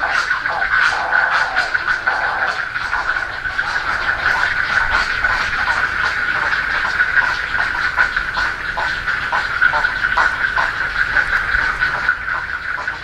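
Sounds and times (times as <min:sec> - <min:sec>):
heron nestlings chattering: 0:00.0 - 0:13.0.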